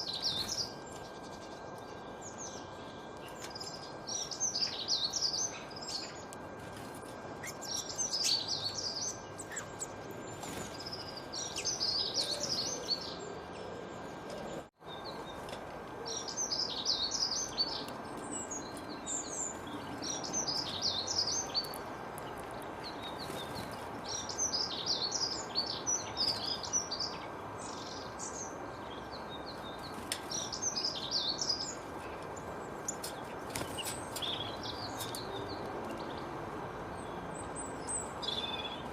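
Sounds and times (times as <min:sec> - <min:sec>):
songbird chirping: 0:00.0 - 0:06.8, 0:07.4 - 0:38.9.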